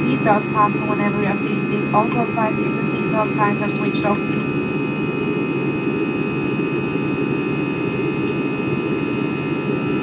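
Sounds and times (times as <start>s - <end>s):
jet engine cabin rush: 0.0s - 10.0s.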